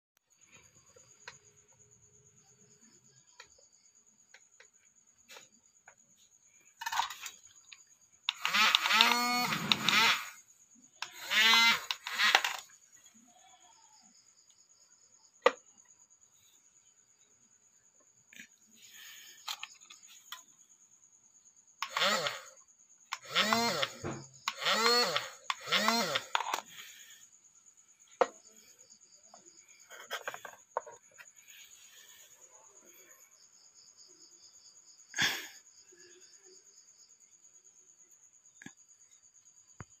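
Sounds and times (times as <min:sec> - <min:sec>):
insects chirping in a trill: 0:00.2 - 0:40.0.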